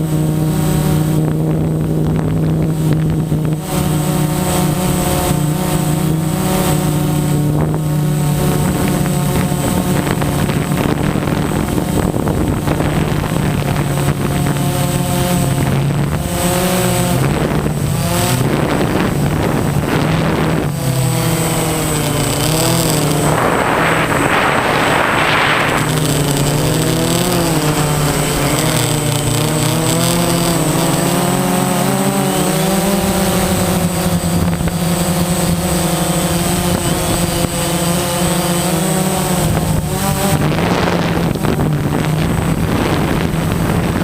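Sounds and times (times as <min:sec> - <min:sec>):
drone motors whining: 0:00.0 - 0:44.0
wind on microphone: 0:00.0 - 0:44.0.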